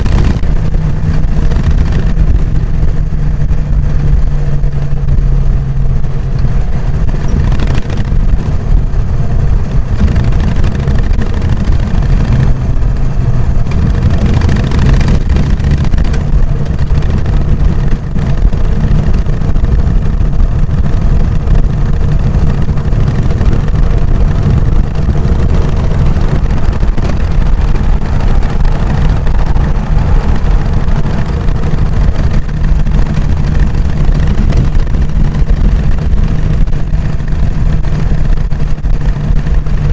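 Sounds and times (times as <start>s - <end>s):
motorcycle engine thrumming: 0.0s - 39.9s.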